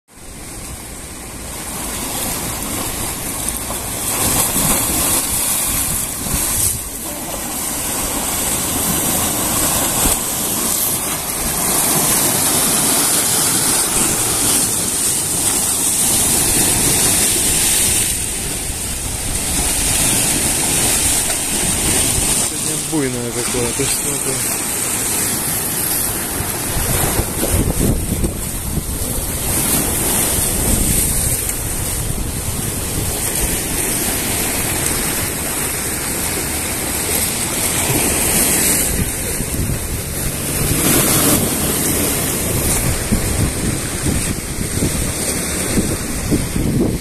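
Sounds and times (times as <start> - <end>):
waves splashing on rocky shore: 0.1 - 47.0
wind gusting over microphone: 0.3 - 47.0.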